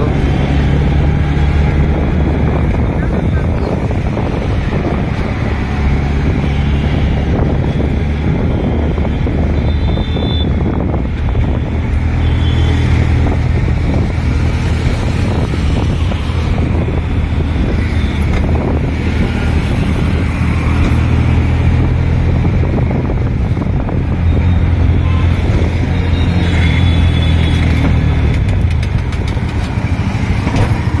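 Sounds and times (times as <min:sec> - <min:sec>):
motorbike engine hum: 0:00.0 - 0:31.0
wind noise: 0:00.0 - 0:31.0.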